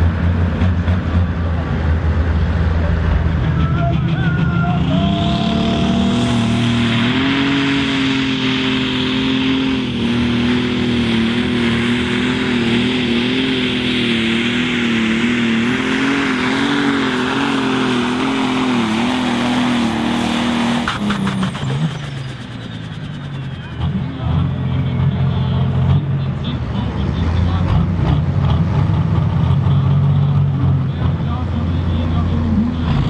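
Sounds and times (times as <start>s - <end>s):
tractor diesel engine at full throttle: 0.0s - 33.0s.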